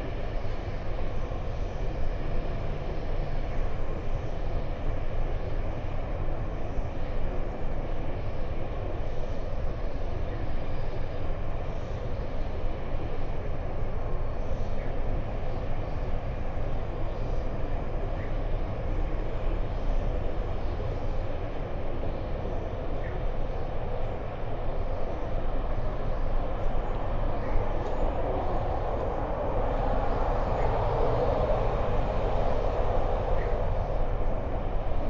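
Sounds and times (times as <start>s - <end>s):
heavy low outdoor rumble: 0.0s - 35.0s.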